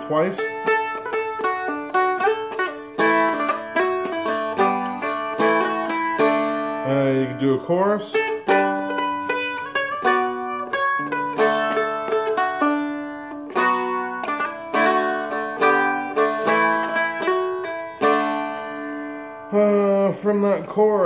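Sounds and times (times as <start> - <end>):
stringed instrument picked and strummed: 0.0 - 21.0.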